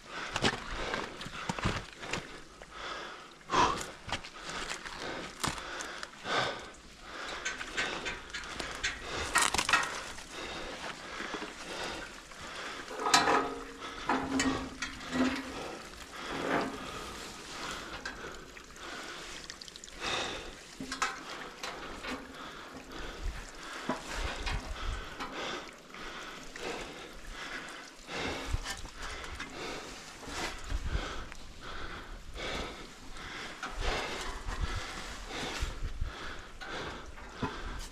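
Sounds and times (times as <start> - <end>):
person breathing heavily: 0.0 - 37.9.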